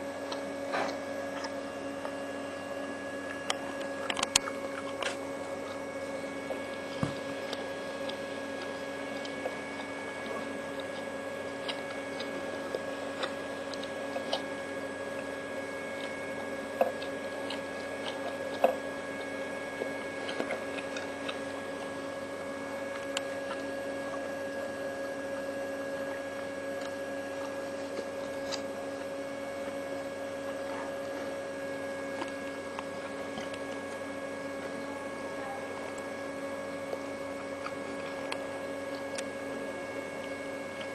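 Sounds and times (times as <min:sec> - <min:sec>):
steady electrical hum: 0:00.0 - 0:40.9.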